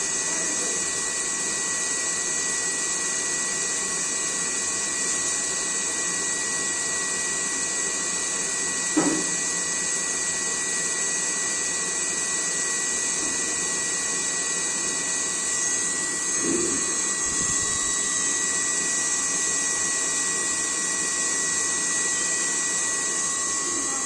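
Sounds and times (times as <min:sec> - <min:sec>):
electric fan motor whining: 0:00.0 - 0:24.0.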